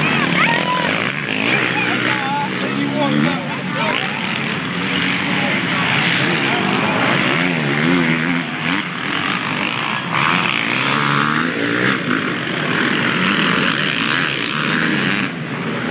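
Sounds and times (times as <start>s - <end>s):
motorcycle engines revving: 0.0s - 15.9s.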